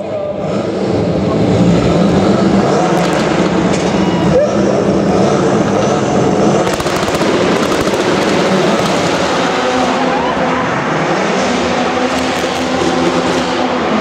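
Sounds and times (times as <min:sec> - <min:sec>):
car engine revving hard: 0:00.3 - 0:14.0.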